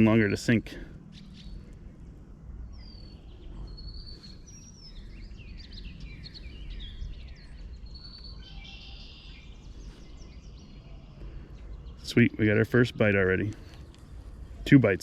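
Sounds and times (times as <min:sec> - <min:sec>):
songbirds singing: 0:00.0 - 0:15.0
steady low background rumble: 0:00.0 - 0:15.0.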